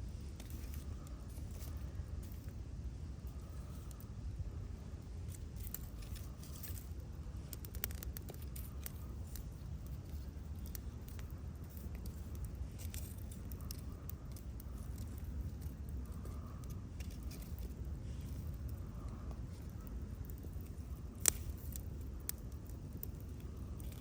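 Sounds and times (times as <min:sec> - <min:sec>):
campfire crackling and popping: 0:00.1 - 0:24.0.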